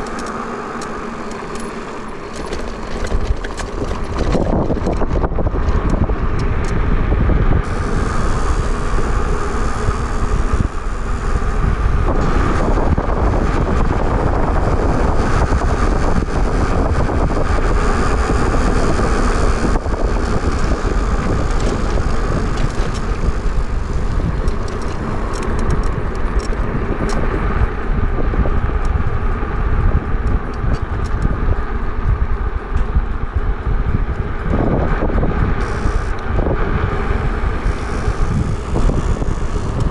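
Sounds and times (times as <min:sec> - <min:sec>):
bike road noise: 0:00.0 - 0:39.9
wind rush on microphone: 0:00.0 - 0:39.9.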